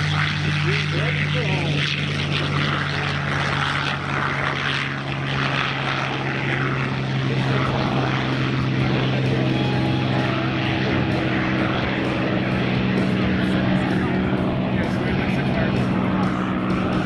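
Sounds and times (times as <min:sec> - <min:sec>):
propeller aircraft engine running: 0:00.0 - 0:17.0.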